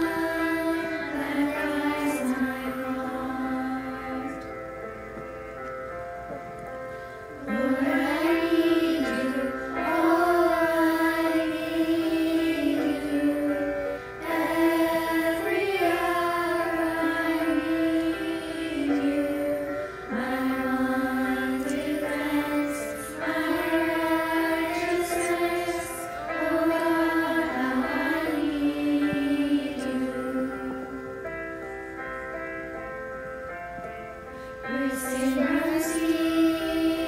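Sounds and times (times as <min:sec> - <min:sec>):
children's choir singing: 0:00.0 - 0:05.7, 0:06.3 - 0:37.0
piano accompaniment: 0:00.0 - 0:37.0.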